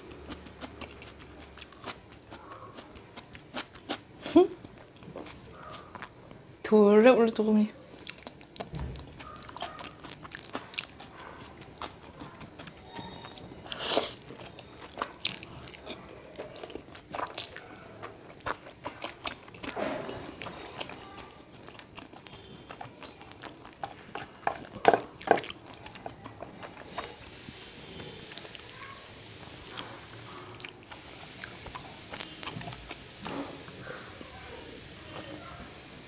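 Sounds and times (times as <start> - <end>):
person chewing noodles: 0.0 - 6.5, 8.0 - 28.7, 29.6 - 34.9.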